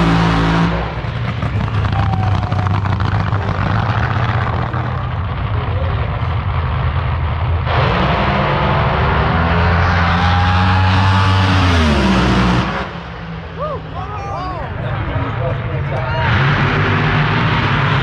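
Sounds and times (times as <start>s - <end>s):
drag racing car engine running: 0.0s - 13.3s, 15.3s - 18.0s.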